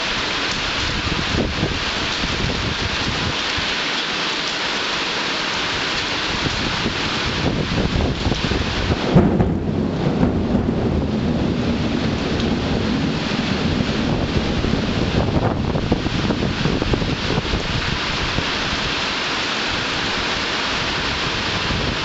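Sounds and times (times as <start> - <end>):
heavy rain falling: 0.0 - 22.0
thunderclap rumbling: 0.6 - 3.4, 6.2 - 19.0, 19.8 - 22.0.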